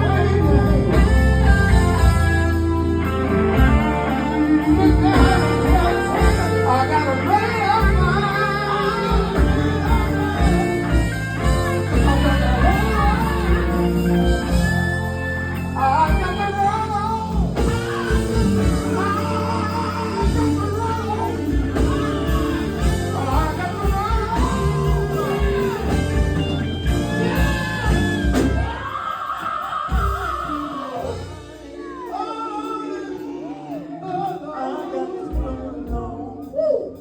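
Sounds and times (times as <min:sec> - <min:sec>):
electric guitar: 0:00.0 - 0:32.0
bass guitar: 0:00.0 - 0:32.3
gospel quartet singing: 0:00.0 - 0:37.0.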